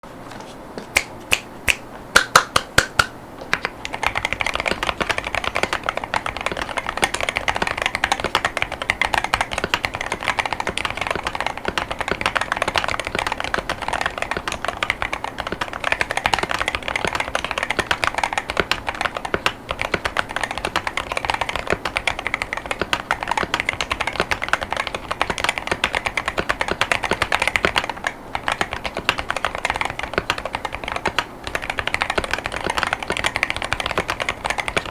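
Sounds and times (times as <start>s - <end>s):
keyboard typing: 2.2s - 34.9s.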